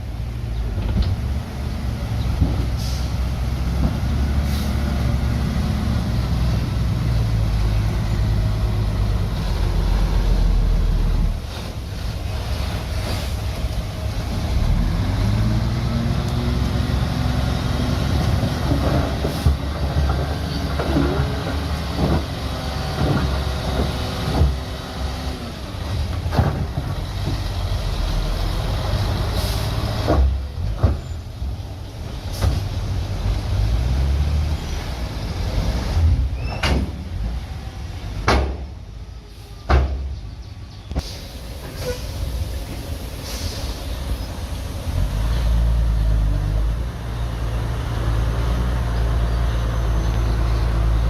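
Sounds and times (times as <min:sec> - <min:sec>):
diesel machinery rumbling: 0:00.0 - 0:51.0.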